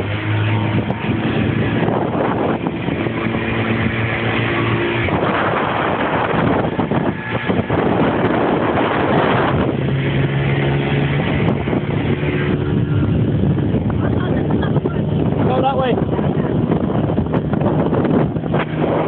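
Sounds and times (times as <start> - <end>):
speedboat engine running: 0.0 - 19.0
water rushing: 0.0 - 19.0
wind: 0.0 - 19.0.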